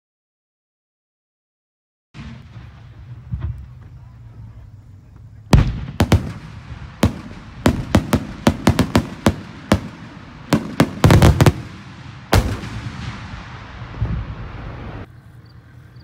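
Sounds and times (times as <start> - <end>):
firework salute bangs: 2.2 - 15.1
rolling echo: 2.2 - 15.1.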